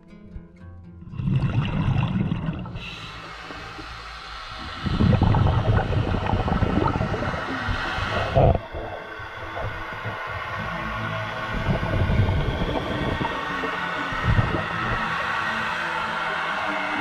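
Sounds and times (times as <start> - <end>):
underwater gurgling bubbles: 1.1 - 16.5.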